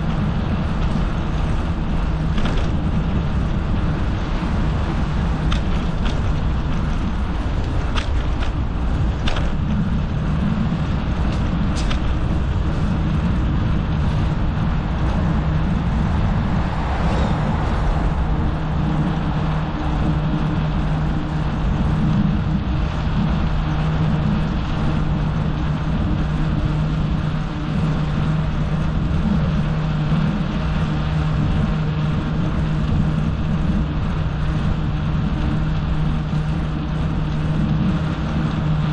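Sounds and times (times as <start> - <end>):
constant low hum: 0.0 - 38.9
echoing traffic rumble: 0.0 - 38.9.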